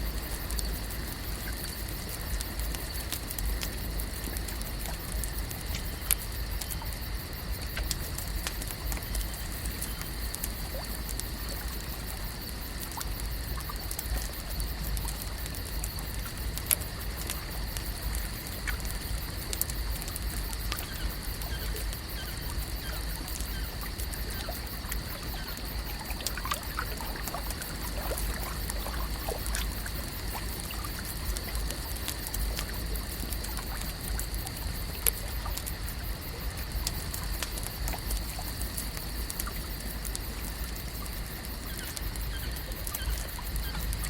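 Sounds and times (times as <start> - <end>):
small ticks: 0.0 - 44.0
steady high hiss: 0.0 - 44.0
water trickling and lapping: 0.0 - 44.0.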